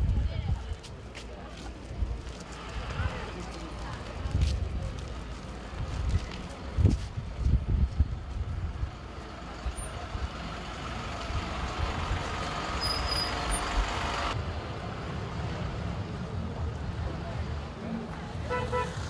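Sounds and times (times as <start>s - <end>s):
bus engine driving past: 2.4s - 19.0s.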